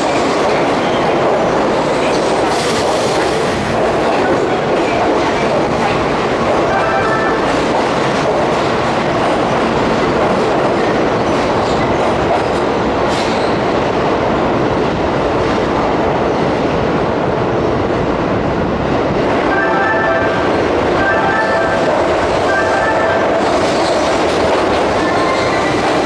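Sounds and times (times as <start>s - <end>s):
train wheels rumbling on rail: 0.0s - 19.5s, 20.2s - 26.0s.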